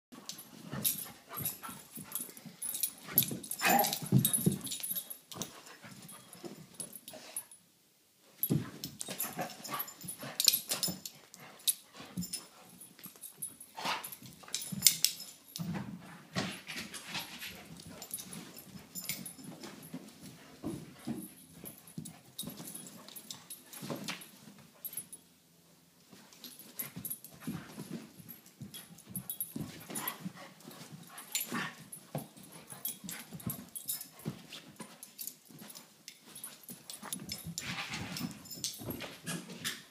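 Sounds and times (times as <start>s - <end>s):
dogs scuffling and knocking: 0.2s - 7.1s, 8.4s - 25.2s, 26.1s - 39.9s.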